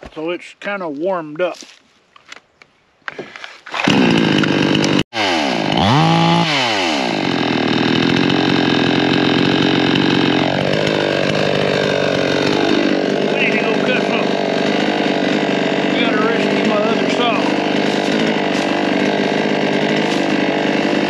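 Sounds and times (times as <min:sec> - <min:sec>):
chainsaw starting and running: 0:03.6 - 0:21.0.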